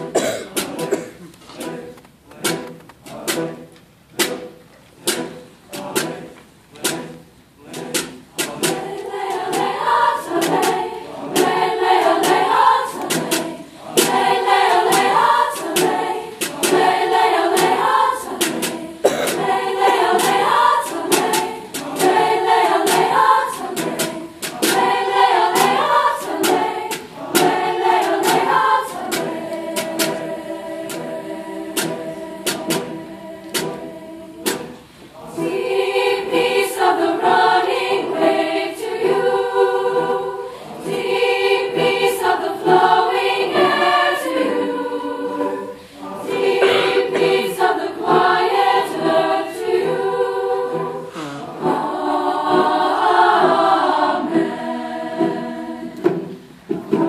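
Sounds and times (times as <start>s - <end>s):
piano accompaniment: 0.0s - 34.8s, 35.4s - 57.0s
chorus singing in parts: 0.0s - 57.0s.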